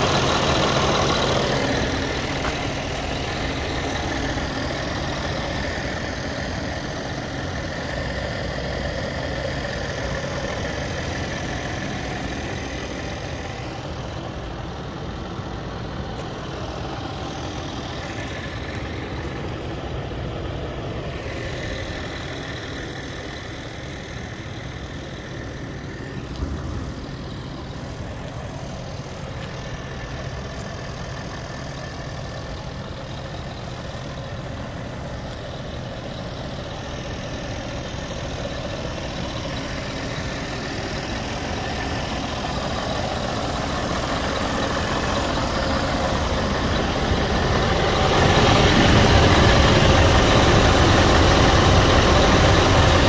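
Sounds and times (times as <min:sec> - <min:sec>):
truck diesel engine idling: 0:00.0 - 0:53.0.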